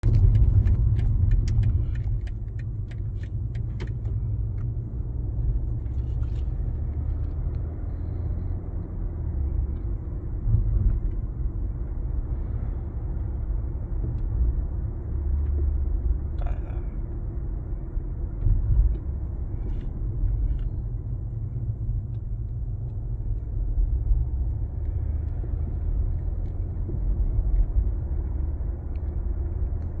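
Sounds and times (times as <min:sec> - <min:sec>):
car engine low rumble: 0:00.0 - 0:30.0.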